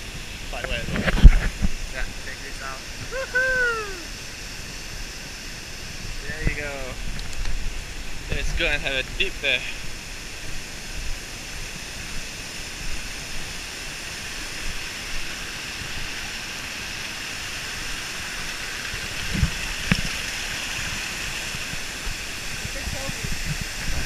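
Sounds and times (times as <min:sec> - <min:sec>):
water cascading over rocks: 0:00.0 - 0:24.0.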